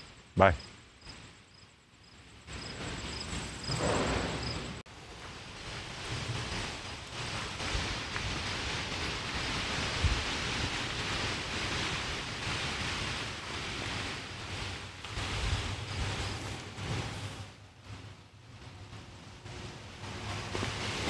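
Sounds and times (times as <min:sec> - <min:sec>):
wind noise on microphone: 0:02.5 - 0:21.0.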